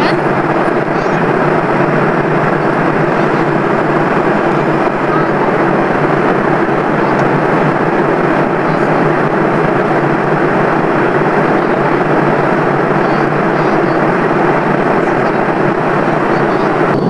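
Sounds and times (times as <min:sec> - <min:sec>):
airliner cabin engine rush: 0:00.0 - 0:17.0
faint steady hum: 0:00.0 - 0:17.0.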